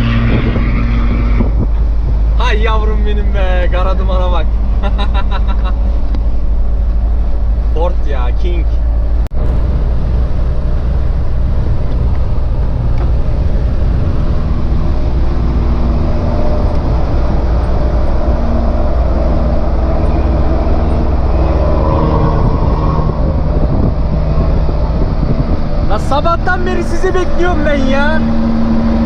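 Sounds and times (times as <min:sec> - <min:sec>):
road noise: 0:00.0 - 0:29.0
truck engines rumbling: 0:00.0 - 0:29.0.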